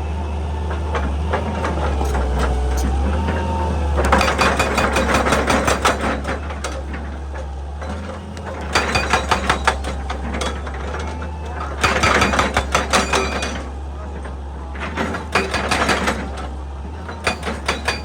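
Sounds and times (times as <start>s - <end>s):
excavator engine droning: 0.0s - 18.0s.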